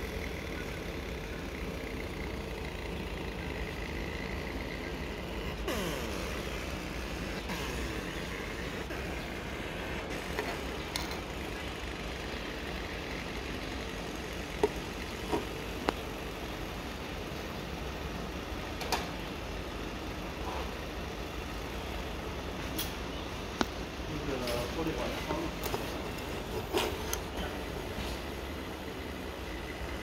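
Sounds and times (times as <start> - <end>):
laser engraving machine hum: 0.0 - 30.0.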